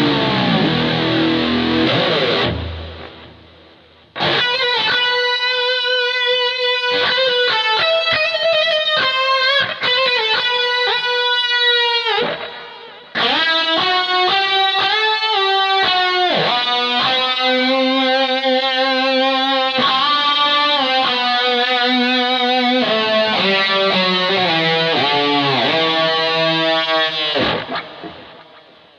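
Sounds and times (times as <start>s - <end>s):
distorted electric guitar lead: 0.0s - 28.9s.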